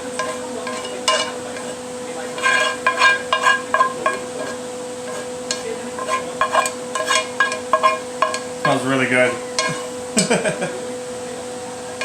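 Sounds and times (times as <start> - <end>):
utensil scraping and clinking on pan: 0.0 - 10.0.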